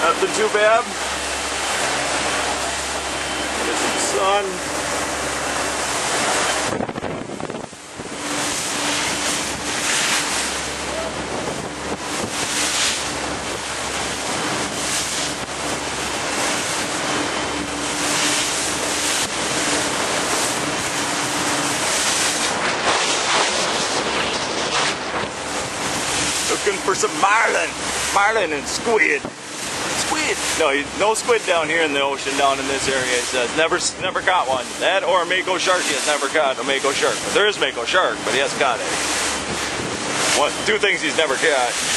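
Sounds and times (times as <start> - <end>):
boat engine hum: 0.0 - 41.9
sea rushing: 0.0 - 41.9
wind buffeting microphone: 4.5 - 34.9, 37.0 - 41.9.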